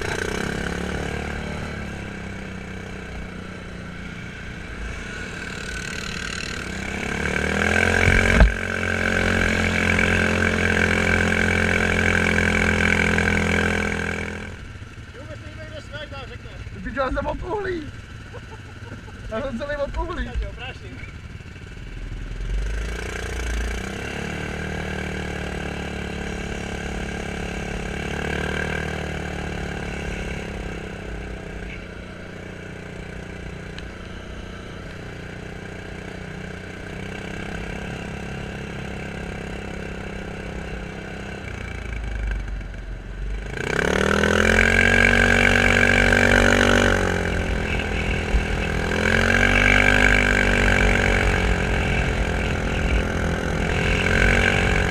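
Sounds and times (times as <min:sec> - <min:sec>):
quad bike engine revving: 0:00.0 - 0:54.9.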